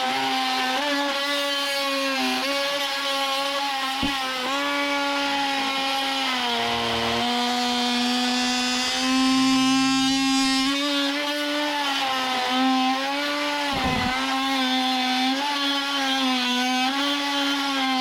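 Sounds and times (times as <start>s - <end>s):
multi-tool cutting wood: 0.0s - 18.0s.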